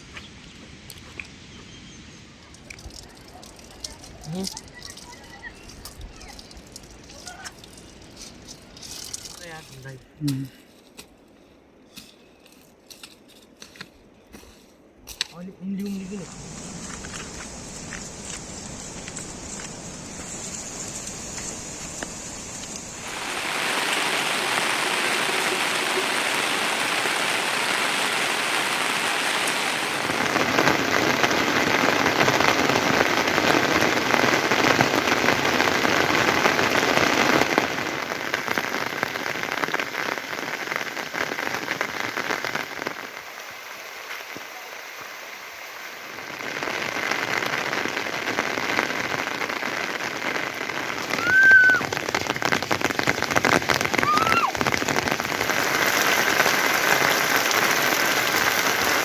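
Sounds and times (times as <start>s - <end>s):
rain falling: 2.3s - 9.9s, 15.8s - 59.0s.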